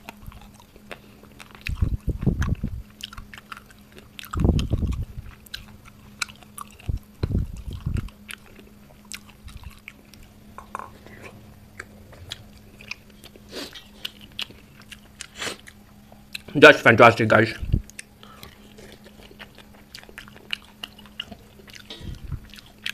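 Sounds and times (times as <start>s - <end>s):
chewing and crunching: 0.0s - 16.6s, 17.5s - 22.9s
low hum: 0.0s - 22.9s.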